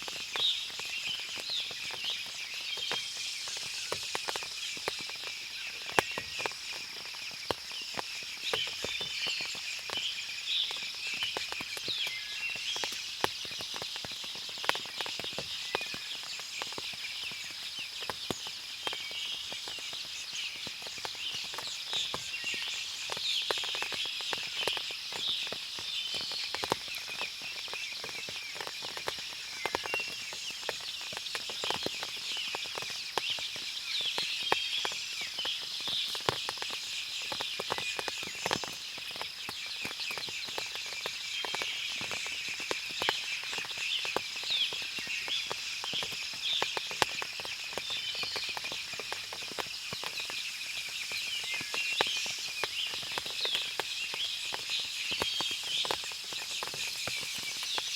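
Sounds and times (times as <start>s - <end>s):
water dripping from trees: 0.0s - 57.9s
birds chirping: 0.1s - 57.9s.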